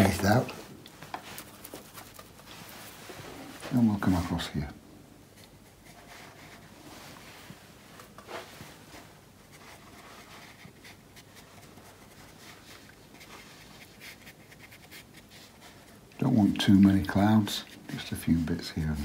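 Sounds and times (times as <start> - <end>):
brush swishing on paper: 1.0 - 4.5, 5.3 - 19.0.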